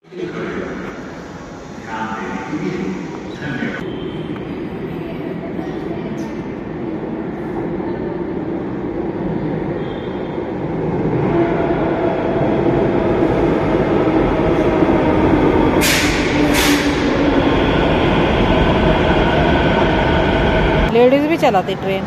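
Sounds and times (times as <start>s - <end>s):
metro train rumble and motor hum: 2.0s - 22.0s.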